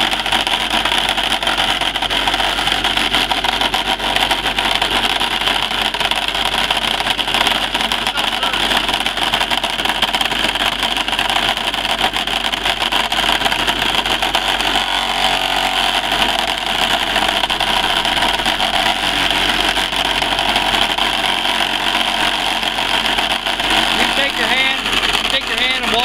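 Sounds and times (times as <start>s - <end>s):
small pump engine running: 0.0s - 26.0s.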